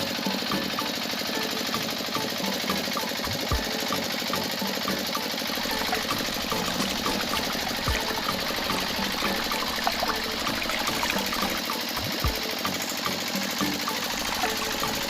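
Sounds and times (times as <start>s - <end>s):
small electric motor buzzing: 0.0s - 15.0s.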